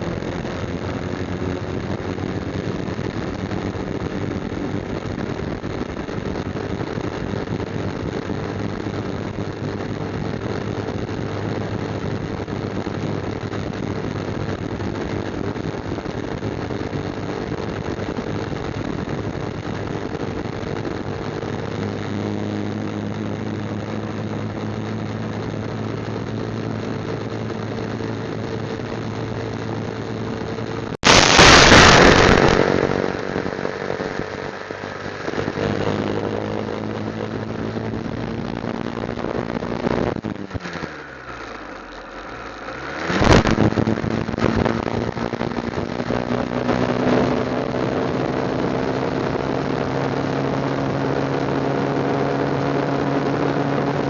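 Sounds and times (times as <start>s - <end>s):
loud rush of noise: 0.0s - 54.0s
motorcycle engine running: 0.0s - 54.0s.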